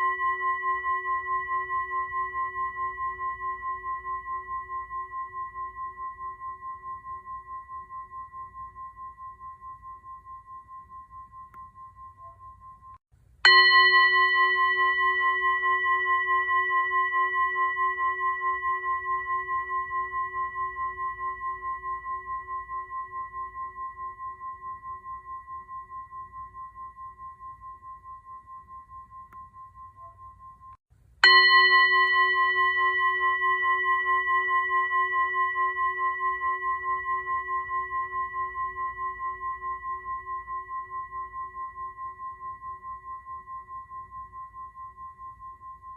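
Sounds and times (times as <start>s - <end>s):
singing bowl ringing: 0.0s - 45.9s.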